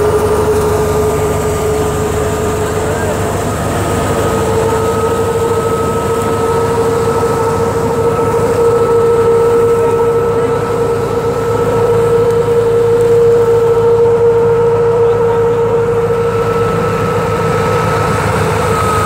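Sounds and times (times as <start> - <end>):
thresher mechanical drone: 0.0 - 19.0.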